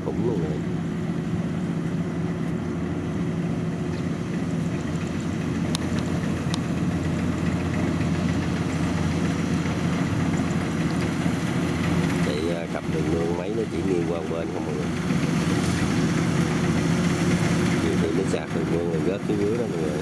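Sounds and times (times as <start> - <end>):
diesel engine running steadily: 0.0 - 20.0.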